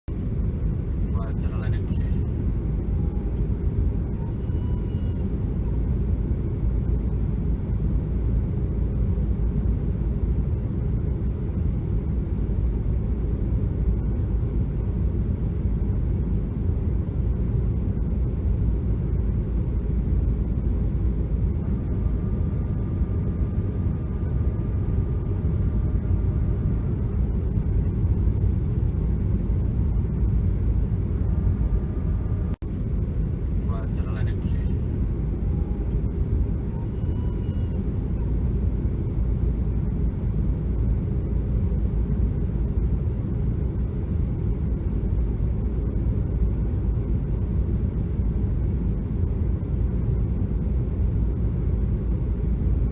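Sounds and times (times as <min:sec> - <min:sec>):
aircraft cabin rumble: 0:00.0 - 0:52.9.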